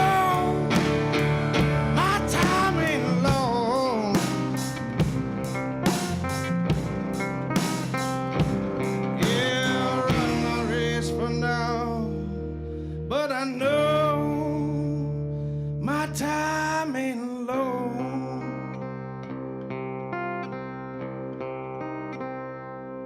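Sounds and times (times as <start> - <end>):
slide guitar notes: 0.0 - 16.8, 17.5 - 23.0
held guitar chords: 0.0 - 23.0.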